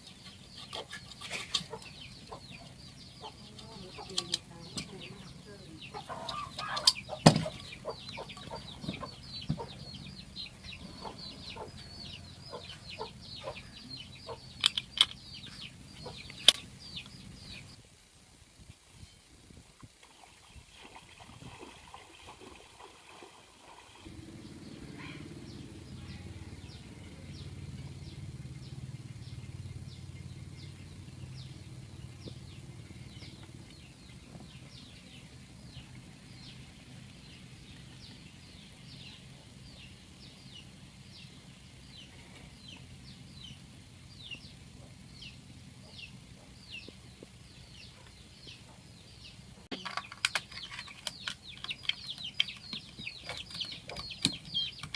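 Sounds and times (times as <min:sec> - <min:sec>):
bird chirping: 0:00.0 - 0:17.8, 0:24.0 - 0:54.9
low steady hum: 0:00.0 - 0:50.4.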